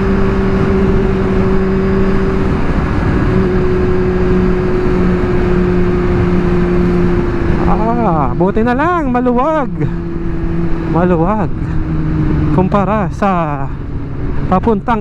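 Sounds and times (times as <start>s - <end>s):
motorcycle engine at speed: 0.0s - 15.0s
wind and road rush: 0.0s - 15.0s.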